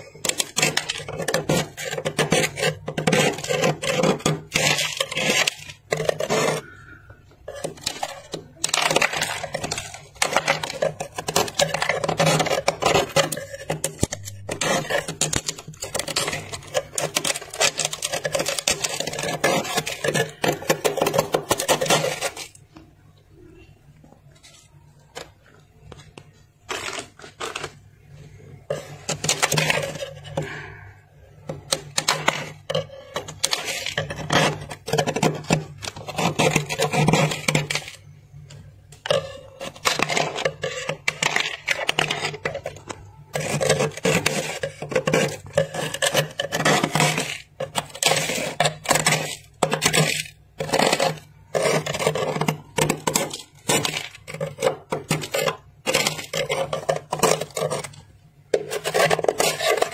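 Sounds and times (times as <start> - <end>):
scraping freezer frost: 0.0 - 59.9.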